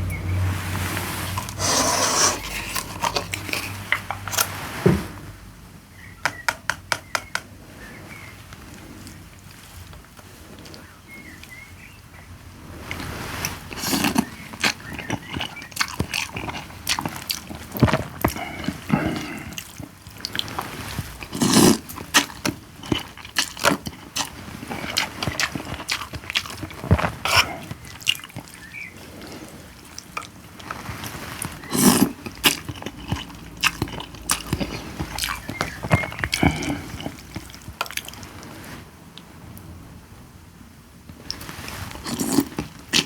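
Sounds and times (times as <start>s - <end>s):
chewing and mouth noises: 0.0s - 4.6s, 8.5s - 11.6s, 12.7s - 39.7s, 41.1s - 43.0s.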